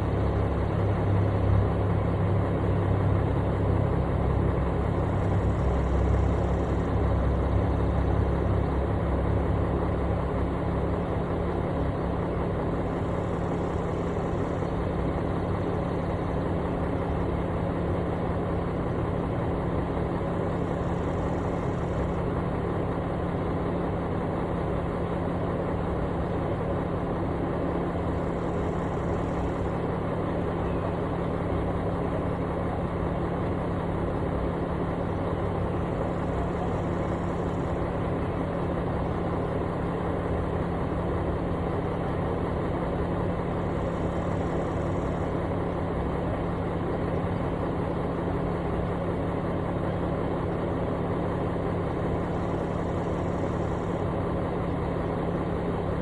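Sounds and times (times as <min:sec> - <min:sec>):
construction engine idling: 0:00.0 - 0:56.0.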